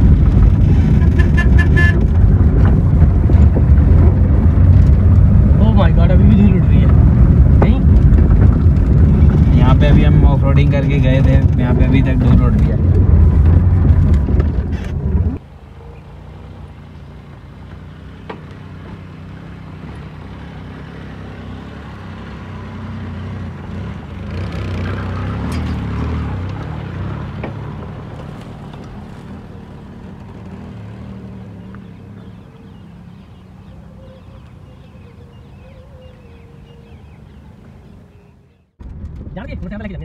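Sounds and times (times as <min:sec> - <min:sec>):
small car engine driving: 0:00.0 - 0:39.2.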